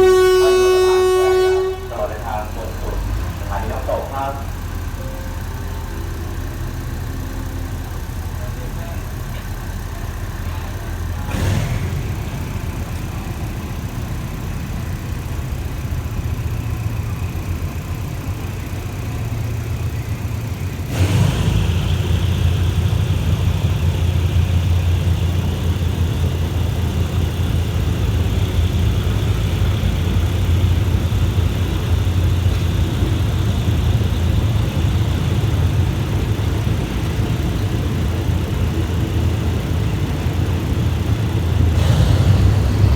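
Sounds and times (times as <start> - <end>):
train knocking: 0.0 - 42.9
train rumbling: 0.0 - 42.9.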